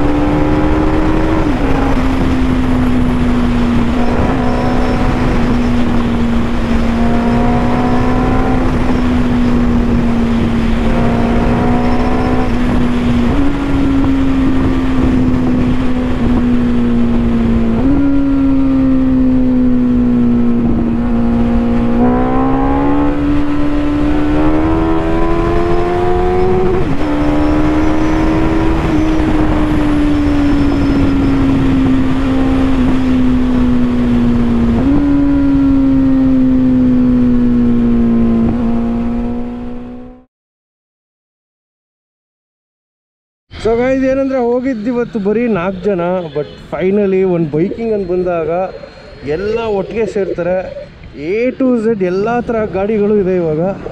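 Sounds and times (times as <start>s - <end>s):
rushing wind noise: 0.0s - 40.2s, 43.5s - 53.9s.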